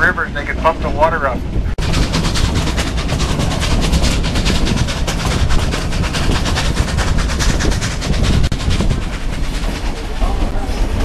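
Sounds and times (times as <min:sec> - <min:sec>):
steam locomotive chuffing: 0:00.0 - 0:11.0
train rumbling: 0:00.0 - 0:11.0.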